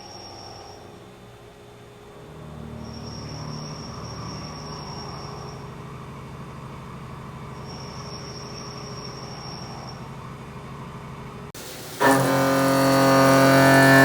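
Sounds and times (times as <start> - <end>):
machine low mechanical hum: 0.0 - 14.0
thin high machine whine: 0.0 - 14.0.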